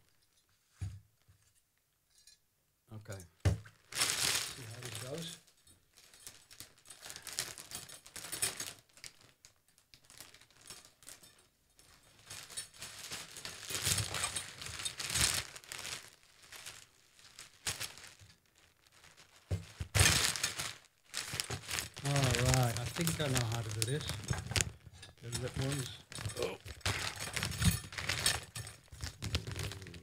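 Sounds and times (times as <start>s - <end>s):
fabric rustling and crinkling: 3.6s - 30.0s.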